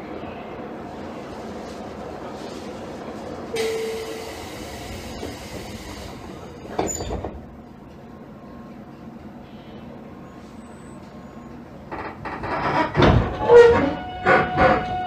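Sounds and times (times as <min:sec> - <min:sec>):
train car rumble: 0:00.0 - 0:15.0.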